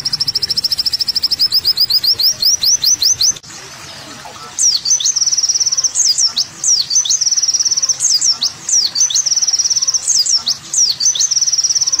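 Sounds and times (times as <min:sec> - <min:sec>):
songbird whistles and trills: 0:00.0 - 0:03.4, 0:04.6 - 0:12.0.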